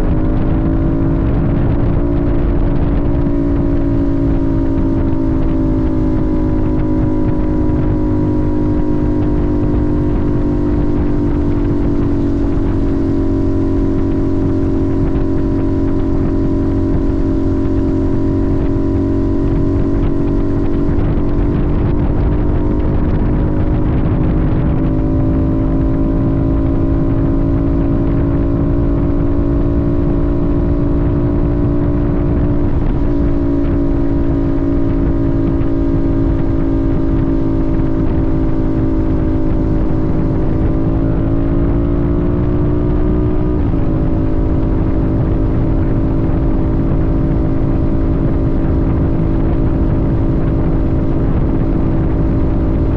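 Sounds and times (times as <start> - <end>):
low rumble: 0.0 - 52.9
motorcycle engine droning: 0.0 - 52.9.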